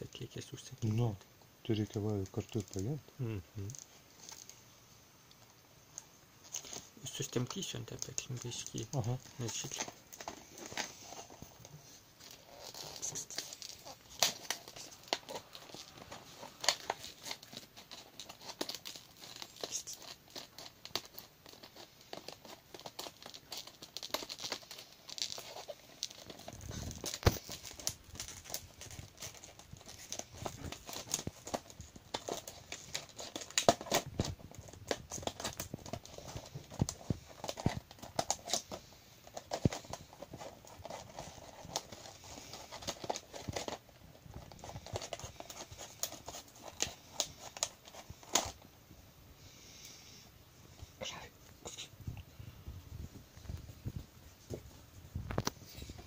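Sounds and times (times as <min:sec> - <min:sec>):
plastic crackling and crinkling: 0:00.0 - 0:49.0, 0:50.7 - 0:56.0.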